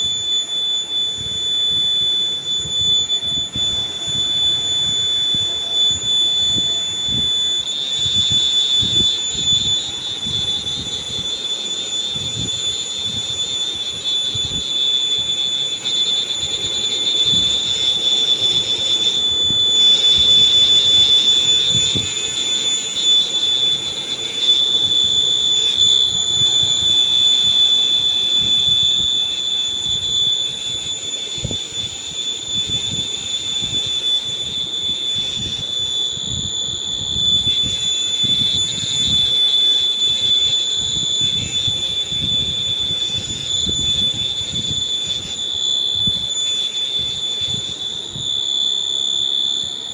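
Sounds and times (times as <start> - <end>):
steady high-pitched whine: 0.0 - 49.9.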